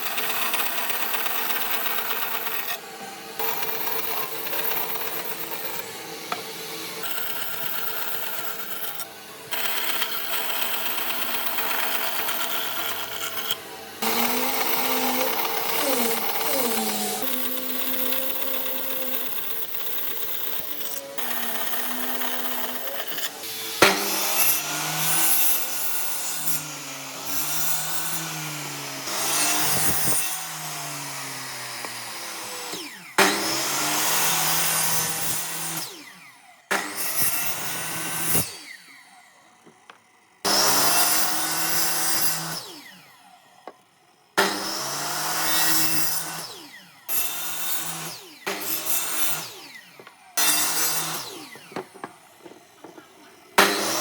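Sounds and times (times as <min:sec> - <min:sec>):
power tools cutting wood: 0:00.0 - 0:43.8, 0:44.4 - 0:54.0.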